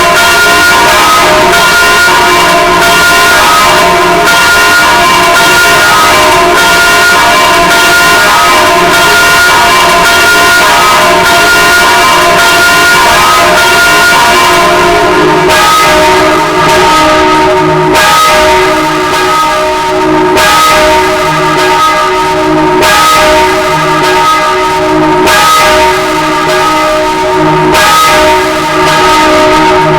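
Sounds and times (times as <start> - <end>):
church bells ringing: 0.0 - 29.9.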